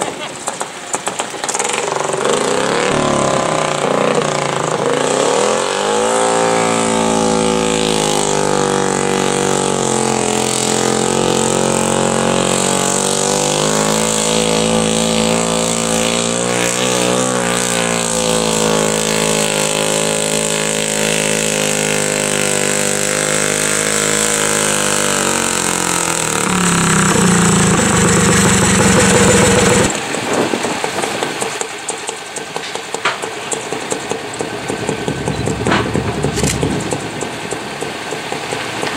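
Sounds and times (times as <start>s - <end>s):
tractor engine revving: 0.0s - 38.9s.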